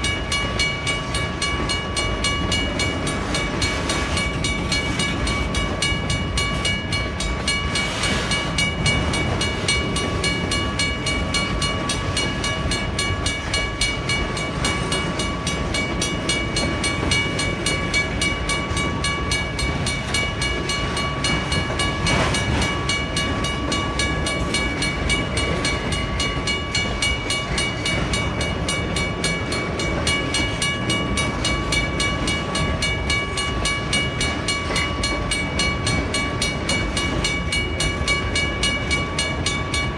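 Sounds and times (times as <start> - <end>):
crossing bell ringing: 0.0 - 39.9
train rumbling: 0.0 - 39.9.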